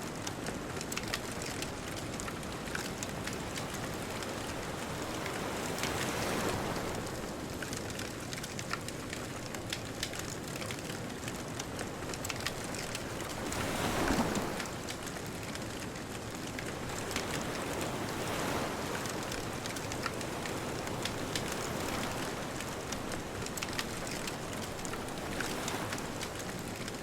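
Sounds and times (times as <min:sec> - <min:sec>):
bonfire crackling: 0:00.1 - 0:27.0
distant ocean surf: 0:01.1 - 0:08.8, 0:09.4 - 0:15.6, 0:16.4 - 0:27.0.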